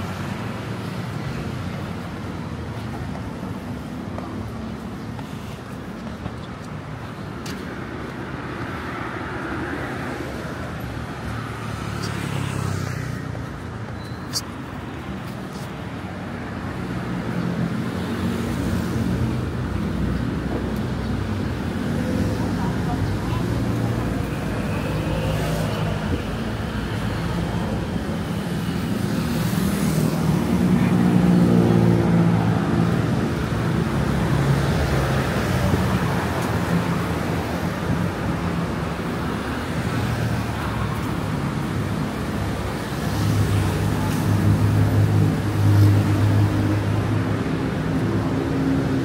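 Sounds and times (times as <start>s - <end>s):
road traffic hum: 0.0s - 49.0s
vehicles passing: 0.0s - 49.0s.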